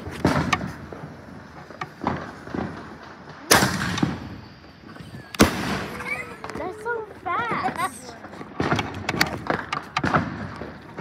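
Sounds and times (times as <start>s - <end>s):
firework crack: 0.0s - 11.0s
fireworks bangs and pops: 0.0s - 11.0s.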